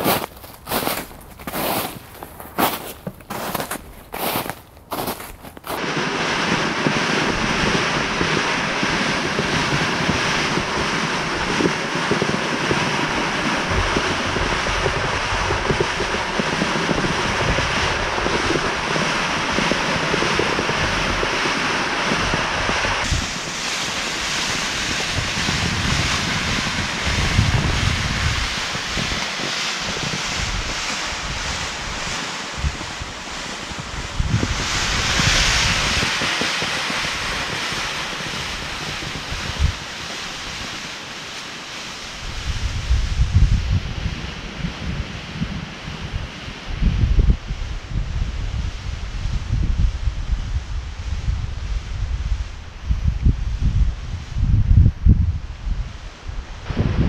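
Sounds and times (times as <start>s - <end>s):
rushing wind: 0.0s - 57.0s.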